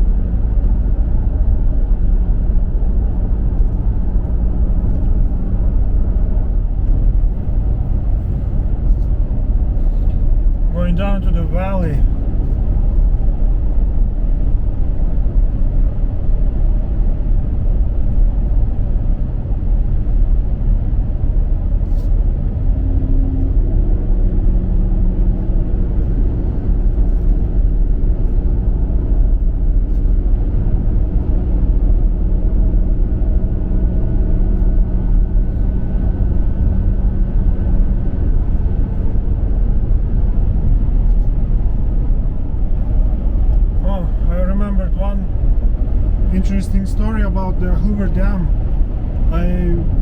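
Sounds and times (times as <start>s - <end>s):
car road noise inside cabin: 0.0s - 50.0s.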